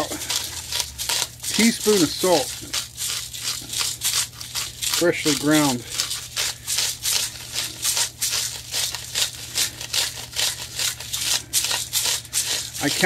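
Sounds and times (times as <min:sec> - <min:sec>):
salt grinder crunching: 0:00.0 - 0:13.0.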